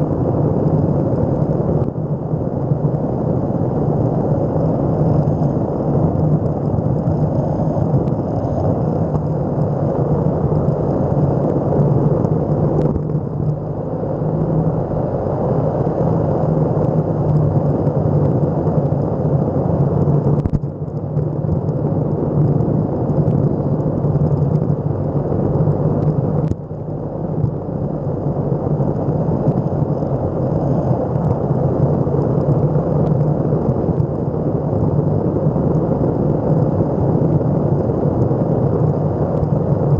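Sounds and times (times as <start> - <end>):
skateboard wheels rolling on asphalt: 0.0 - 39.9.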